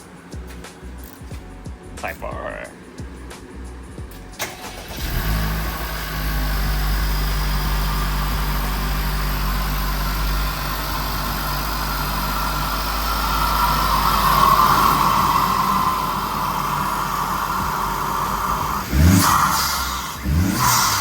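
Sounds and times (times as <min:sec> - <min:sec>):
car engine idling: 0:02.8 - 0:21.0.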